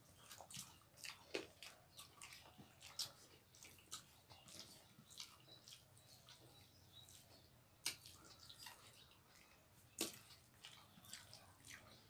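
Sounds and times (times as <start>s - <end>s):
chewing: 0.0s - 12.0s
fingers mixing rice in bowls: 0.0s - 12.0s.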